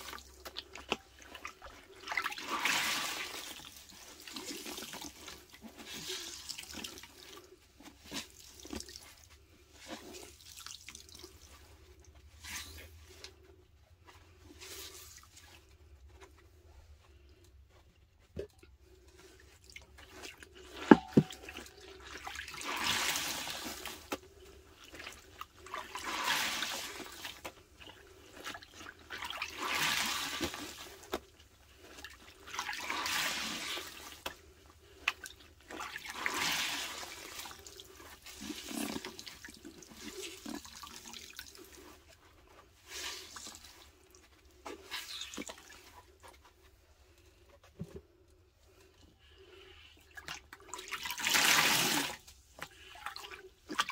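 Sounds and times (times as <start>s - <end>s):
sponge squelching: 0.0s - 47.2s, 48.7s - 53.9s.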